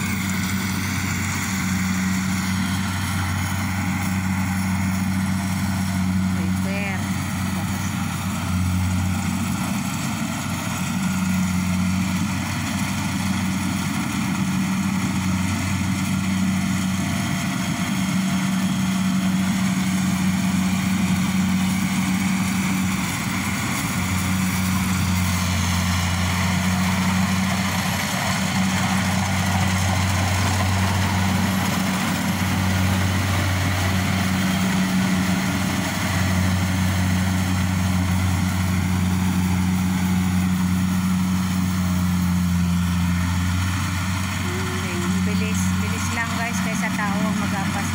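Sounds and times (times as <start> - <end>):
combine harvester engine hum: 0.0 - 47.9.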